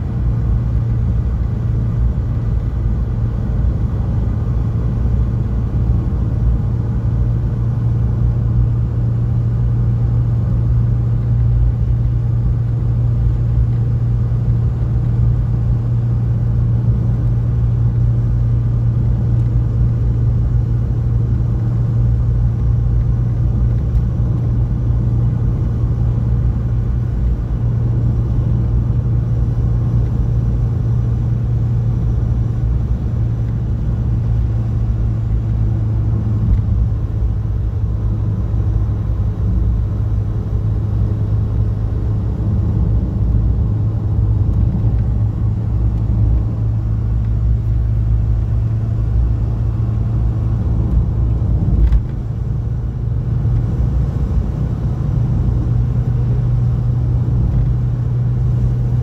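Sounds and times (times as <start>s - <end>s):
car engine hum: 0.0s - 59.0s
road and tyre noise: 0.0s - 59.0s.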